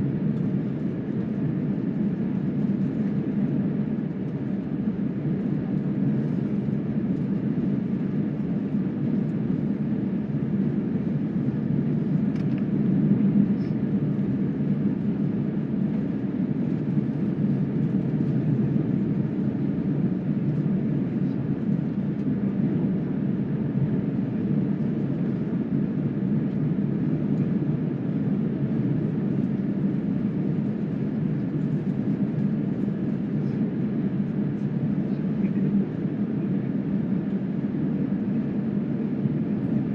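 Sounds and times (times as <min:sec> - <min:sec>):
jet engines idling in cabin: 0:00.0 - 0:39.9.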